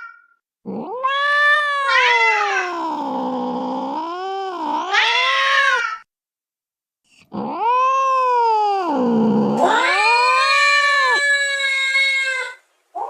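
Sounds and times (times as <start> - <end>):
cat yowling: 0.0 - 6.1, 7.3 - 13.0.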